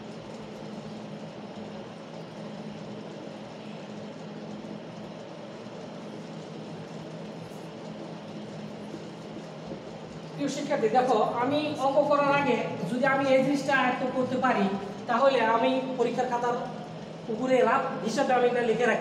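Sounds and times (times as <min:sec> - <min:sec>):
room hum with low tones: 0:00.0 - 0:19.0.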